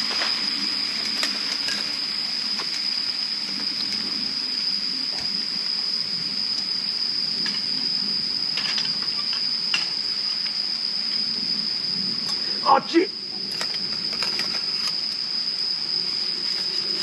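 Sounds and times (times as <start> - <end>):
even hiss: 0.0 - 17.0
high-pitched insect trill: 0.0 - 17.0.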